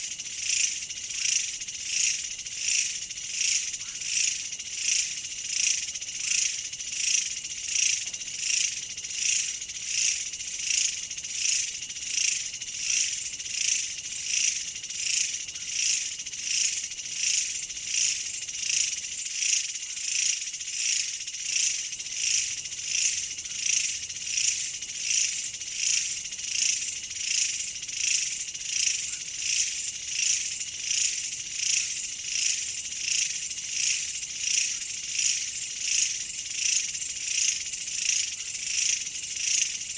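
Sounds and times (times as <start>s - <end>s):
insects pulsing chorus: 0.0s - 39.9s.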